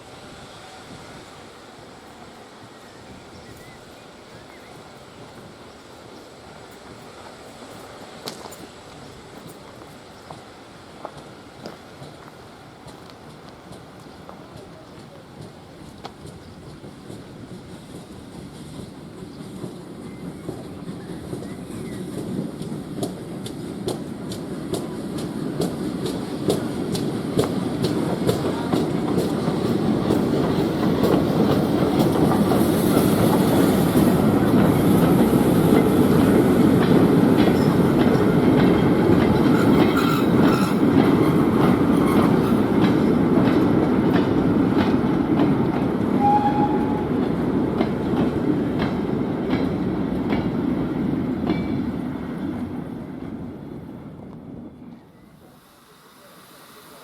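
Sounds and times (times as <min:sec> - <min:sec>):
train rolling past: 0:00.0 - 0:57.0.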